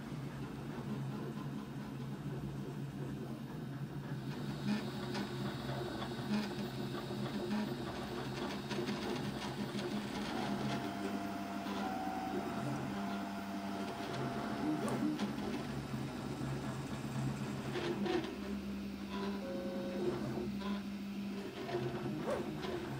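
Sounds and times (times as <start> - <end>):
three d printer motors whirring: 0.0 - 22.9.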